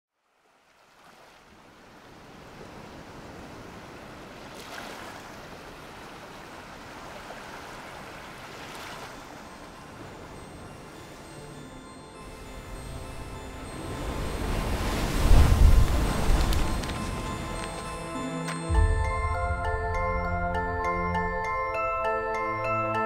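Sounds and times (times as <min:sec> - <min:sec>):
ocean waves breaking: 0:00.6 - 0:22.8.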